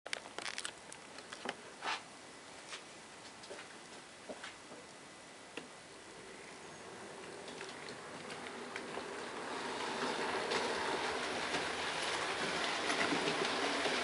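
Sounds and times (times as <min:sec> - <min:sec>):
faint hum: 0:00.1 - 0:13.6.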